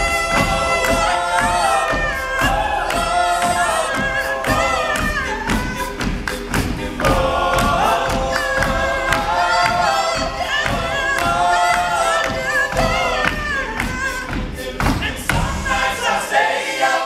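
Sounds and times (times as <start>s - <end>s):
male group singing in harmony: 0.0s - 17.0s.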